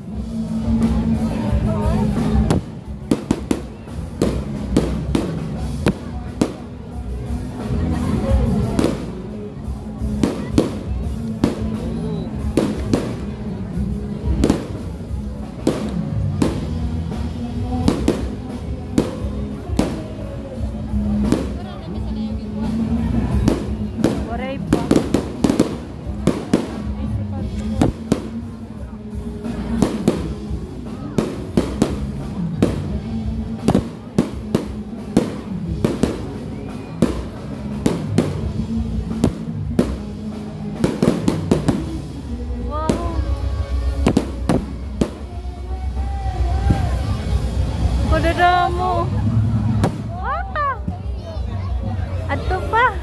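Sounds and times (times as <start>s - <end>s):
music playing: 0.0s - 53.0s
fireworks bangs: 2.0s - 7.0s, 10.0s - 13.5s, 14.1s - 21.7s, 22.6s - 28.9s, 29.5s - 50.7s.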